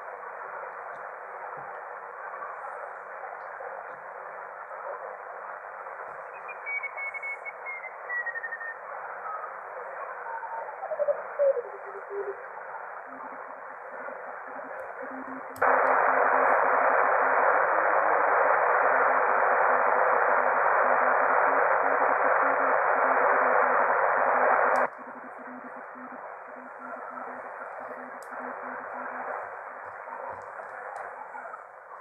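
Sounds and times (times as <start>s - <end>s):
radio receiver hiss: 0.0s - 32.0s.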